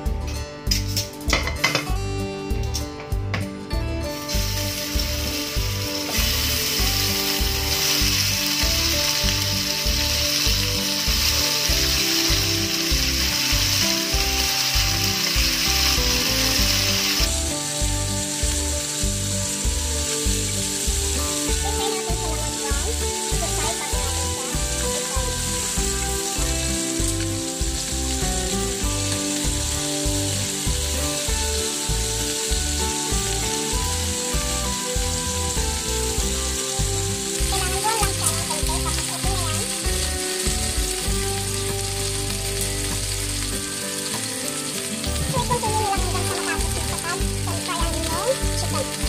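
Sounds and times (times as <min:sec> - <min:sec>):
background music with beat: 0:00.0 - 0:49.0
chicken sizzling in hot oil: 0:00.0 - 0:49.0.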